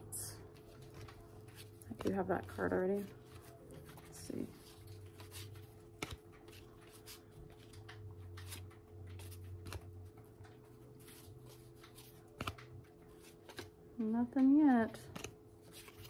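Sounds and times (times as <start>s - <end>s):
low steady hum: 0.0s - 16.0s
cards sliding and tapping: 0.6s - 2.2s, 3.2s - 13.7s, 15.1s - 16.0s.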